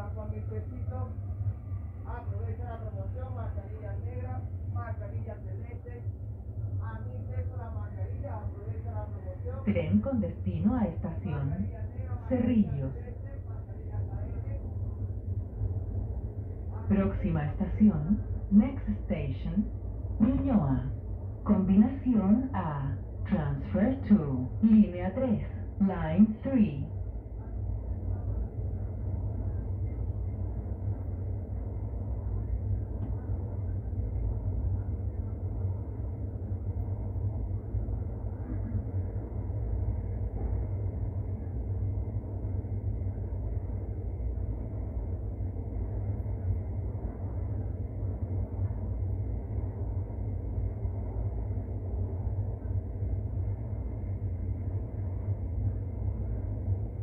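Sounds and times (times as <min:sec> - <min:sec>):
metro train rumbling in tunnel: 0:00.0 - 0:57.0.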